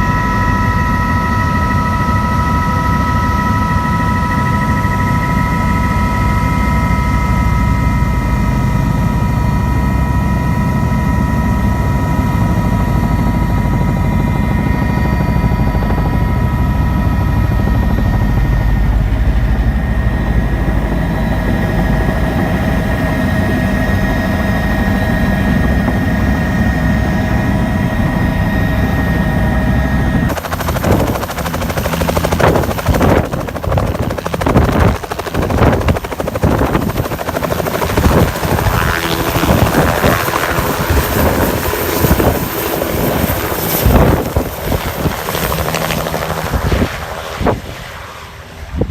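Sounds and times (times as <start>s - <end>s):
helicopter engine and rotor rumble: 0.0s - 48.9s
high turbine whine: 0.0s - 48.9s.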